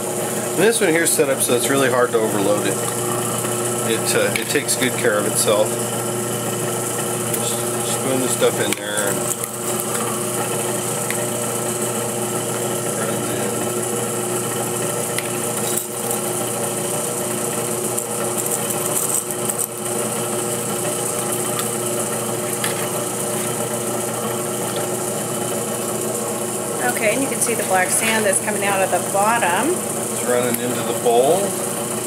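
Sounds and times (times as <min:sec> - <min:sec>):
centrifuge mechanical hum: 0:00.0 - 0:32.0.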